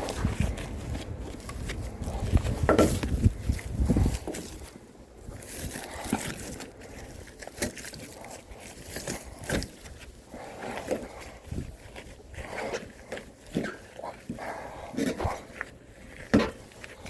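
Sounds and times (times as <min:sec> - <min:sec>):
firewood logs knocking and scraping: 0:00.0 - 0:17.0.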